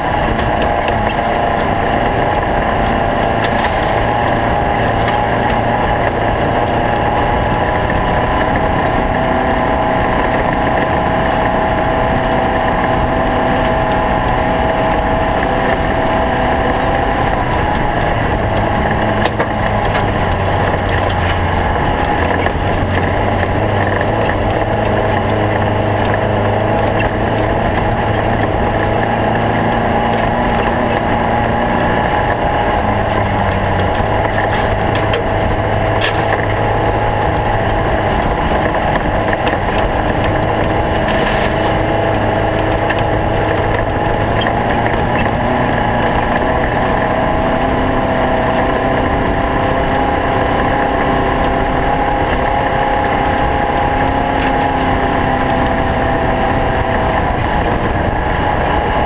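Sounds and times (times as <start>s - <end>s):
car engine running under load: 0.0s - 59.0s.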